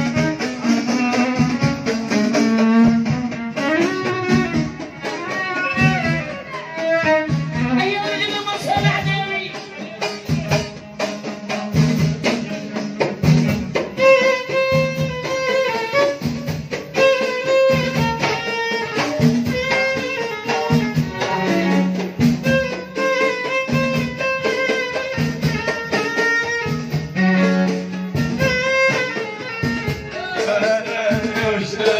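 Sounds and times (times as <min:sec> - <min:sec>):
violin melody: 0:00.0 - 0:12.1, 0:13.5 - 0:31.9
steady drum beat: 0:00.0 - 0:31.9.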